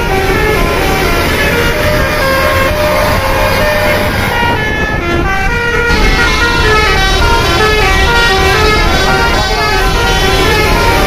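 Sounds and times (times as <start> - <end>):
bus engine rumble: 0.0 - 11.0
melodic bus horn: 0.0 - 11.0.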